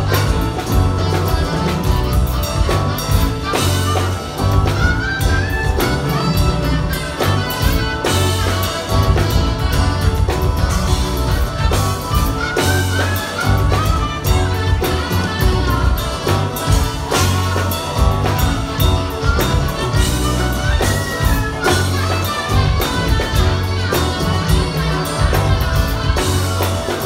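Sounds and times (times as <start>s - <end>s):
live band instrumental: 0.0s - 27.0s.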